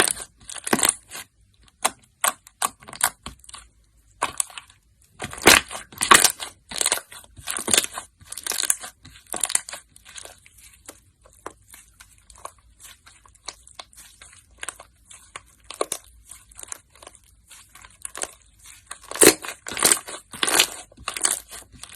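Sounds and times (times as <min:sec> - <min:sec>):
slime crackling and crunching: 0:00.0 - 0:21.9.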